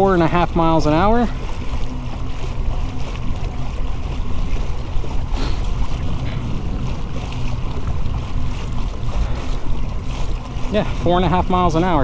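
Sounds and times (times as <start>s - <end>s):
water rushing along kayak hull: 0.0s - 12.0s
wind rumbling on microphone: 0.0s - 12.0s.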